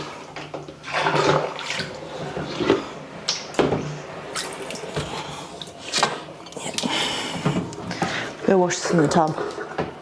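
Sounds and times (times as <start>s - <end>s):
tap water running and splashing: 0.0s - 10.0s.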